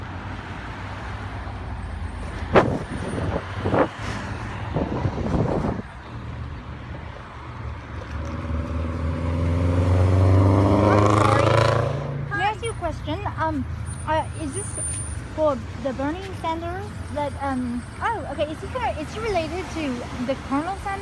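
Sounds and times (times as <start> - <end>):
cars and trucks driving past: 0.0 - 21.0
vehicle accelerating: 0.3 - 21.0.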